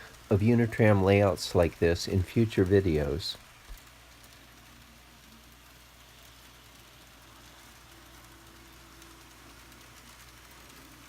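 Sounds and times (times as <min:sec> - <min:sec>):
model tram motor humming: 0:00.0 - 0:11.0
thin motor whine: 0:00.0 - 0:11.0.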